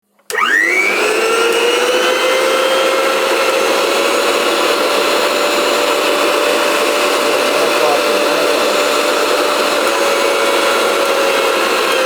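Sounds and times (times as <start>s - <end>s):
mixer grinder motor whine: 0.2s - 12.0s.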